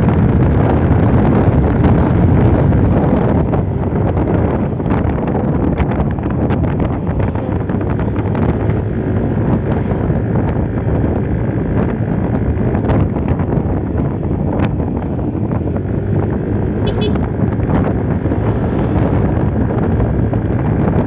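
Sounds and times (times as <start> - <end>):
wind buffeting microphone: 0.0 - 21.0
scooter engine running: 0.5 - 21.0.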